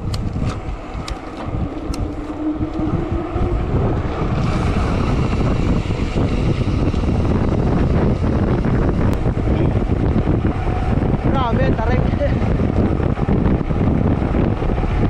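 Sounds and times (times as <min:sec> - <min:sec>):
wind buffeting microphone: 0:00.0 - 0:15.0
thin steady whine: 0:00.5 - 0:15.0.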